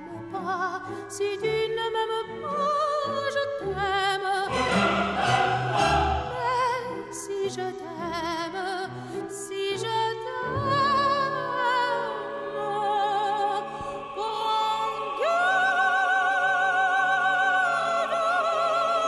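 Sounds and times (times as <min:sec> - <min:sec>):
opera singing over loudspeakers: 0:00.0 - 0:19.0.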